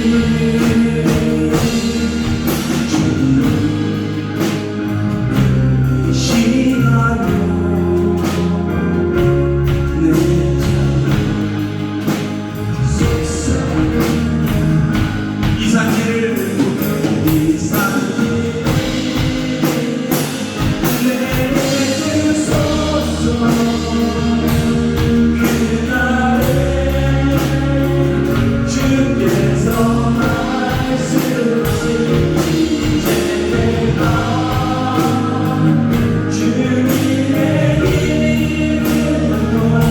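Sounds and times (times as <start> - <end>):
congregation singing: 0.0 - 39.9
drum kit: 0.0 - 39.9
worship band playing: 0.0 - 39.9.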